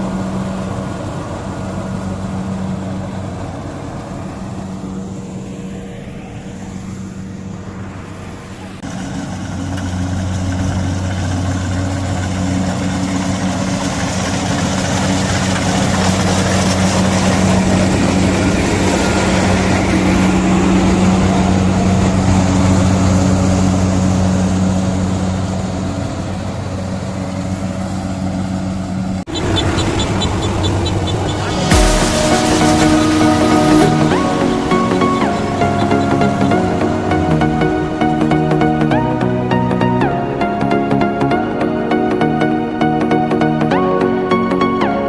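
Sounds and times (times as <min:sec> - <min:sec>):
combine harvester engine drone: 0:00.0 - 0:45.0.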